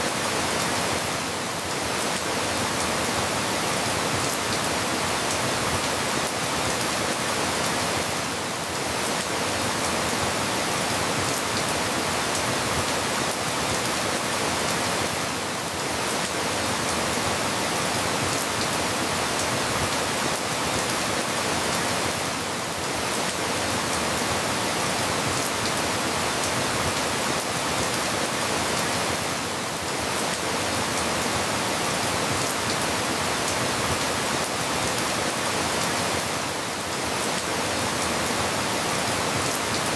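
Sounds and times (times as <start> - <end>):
steady dense rainfall: 0.0 - 39.9.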